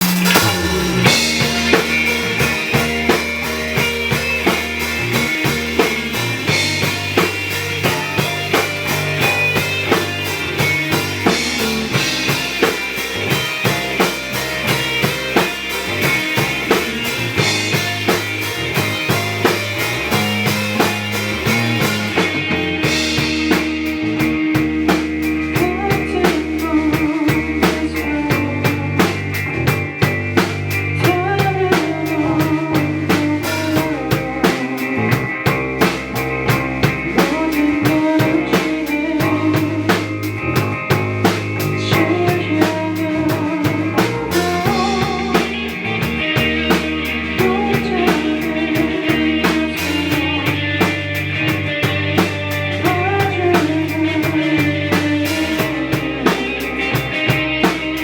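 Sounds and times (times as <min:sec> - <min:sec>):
bass notes: 0:00.0 - 0:58.0
drum kit steady beat: 0:00.0 - 0:58.0
guitar: 0:00.0 - 0:58.0.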